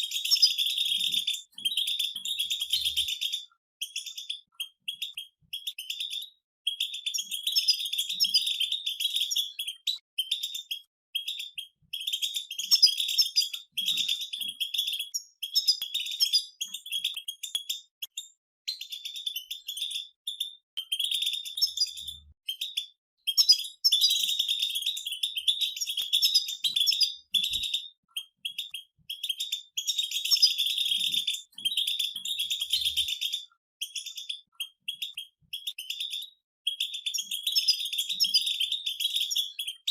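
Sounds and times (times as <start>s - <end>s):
goldfinches twittering song: 0.0s - 39.9s.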